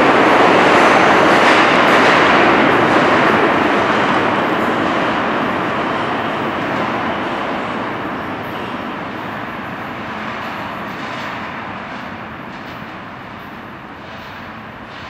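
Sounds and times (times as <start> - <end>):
subway train rumbling in tunnel: 0.0 - 15.0.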